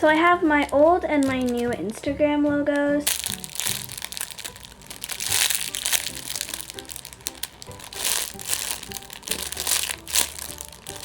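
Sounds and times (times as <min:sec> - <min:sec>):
light background music: 0:00.0 - 0:11.0
squishy toy crinkling: 0:00.6 - 0:01.8, 0:03.0 - 0:11.0.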